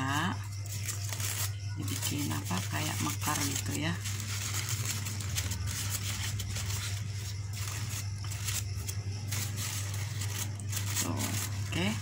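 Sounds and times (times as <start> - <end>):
crepe paper rustling: 0.1 - 12.0.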